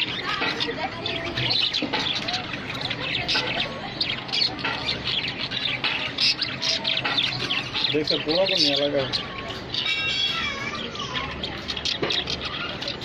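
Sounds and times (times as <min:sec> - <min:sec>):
budgerigars chattering and chirping: 0:00.0 - 0:13.0.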